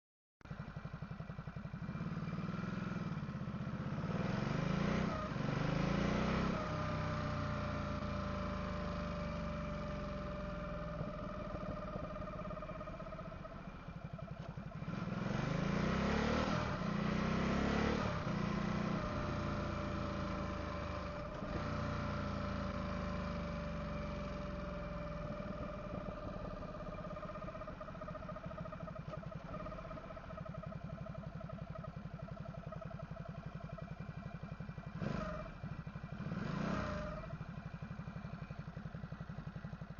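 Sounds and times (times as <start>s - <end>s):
motorcycle engine accelerating: 0.4s - 39.9s.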